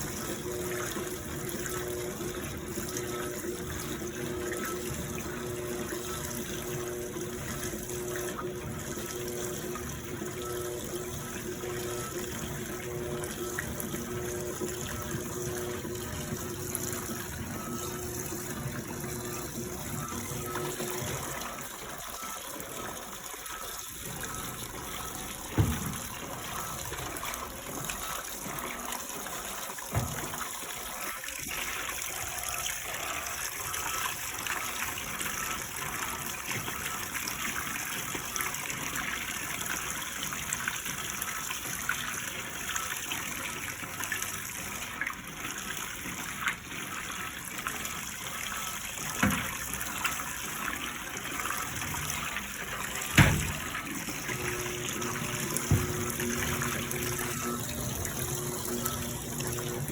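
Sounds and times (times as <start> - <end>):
water rushing in washing machine: 0.0 - 59.9.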